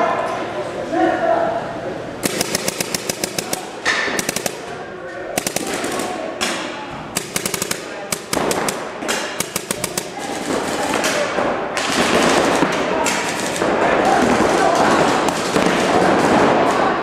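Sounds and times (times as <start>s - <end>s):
voices in background: 0.0s - 17.0s
paintball markers firing: 2.2s - 11.2s, 11.8s - 16.5s.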